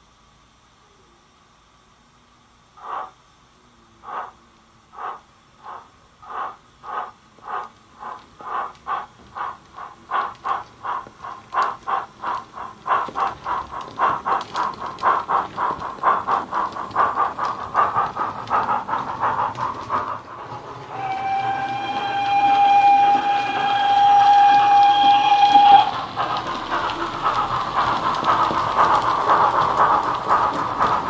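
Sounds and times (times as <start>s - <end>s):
model steam locomotive chuffs: 0.0s - 31.0s.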